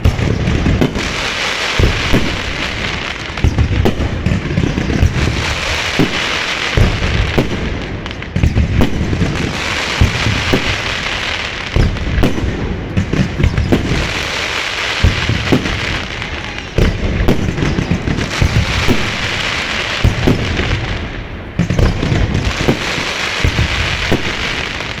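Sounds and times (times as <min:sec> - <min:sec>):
dense firework crackle: 0:00.0 - 0:25.0
sharp firework bangs: 0:00.0 - 0:25.0.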